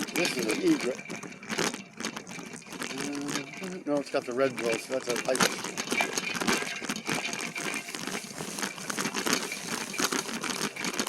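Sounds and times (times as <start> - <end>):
bike tyres crackling on rough trail: 0.0 - 11.0.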